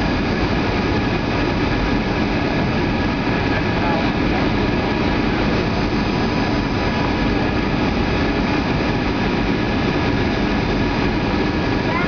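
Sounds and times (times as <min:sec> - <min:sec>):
faint steady whining tones: 0:00.0 - 0:12.0
jet engine and airflow rush: 0:00.0 - 0:12.0.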